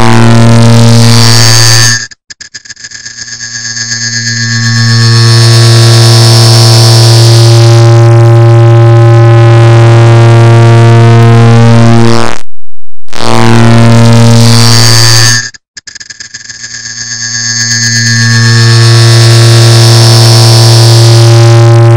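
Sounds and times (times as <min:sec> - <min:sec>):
low buzz of sped-up ticking: 0:03.1 - 0:15.6, 0:16.5 - 0:21.9.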